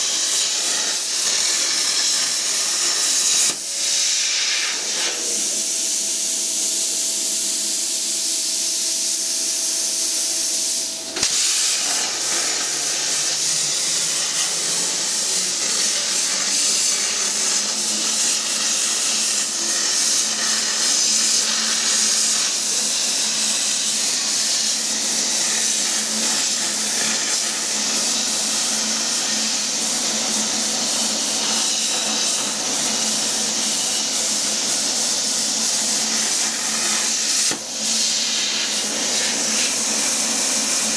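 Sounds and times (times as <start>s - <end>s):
loud steady hissing: 0.0s - 40.9s.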